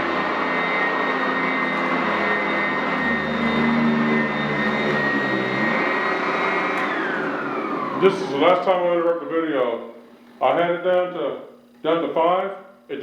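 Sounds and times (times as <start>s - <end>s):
upright vacuum cleaner running: 0.0s - 12.5s.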